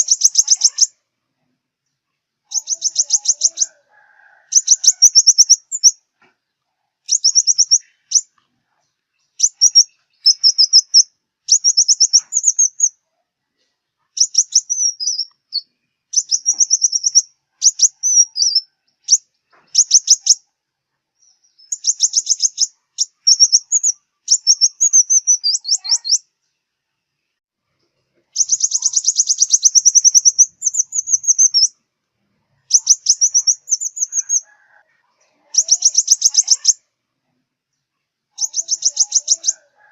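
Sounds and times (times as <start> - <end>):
bird chirping: 0.0 - 1.0, 1.8 - 3.8, 4.5 - 27.4, 28.2 - 31.8, 32.5 - 36.9, 37.6 - 39.8.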